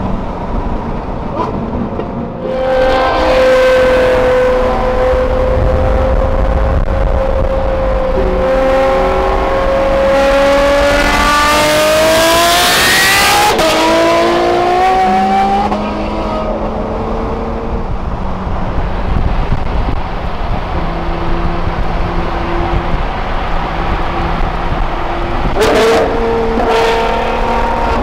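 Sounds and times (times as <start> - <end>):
sports car engine accelerating: 0.1 - 28.0.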